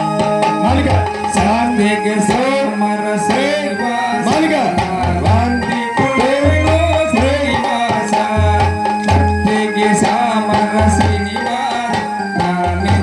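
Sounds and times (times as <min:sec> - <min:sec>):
low drum beat: 0:00.0 - 0:13.0
person singing: 0:00.4 - 0:13.0.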